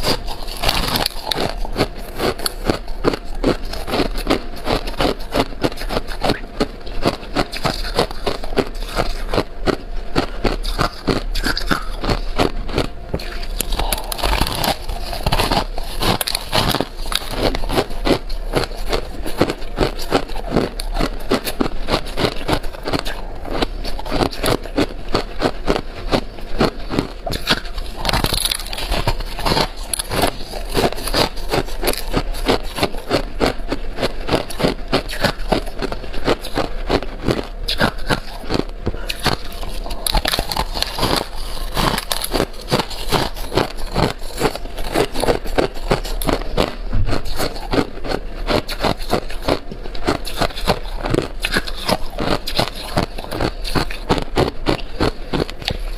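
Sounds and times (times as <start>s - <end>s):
ice being chewed and crunching: 0.0s - 55.9s.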